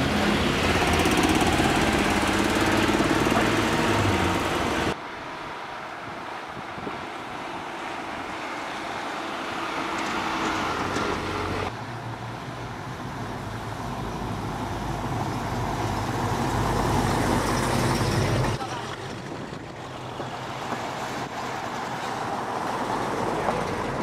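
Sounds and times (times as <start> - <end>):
small car engine and tyres: 0.0 - 24.0.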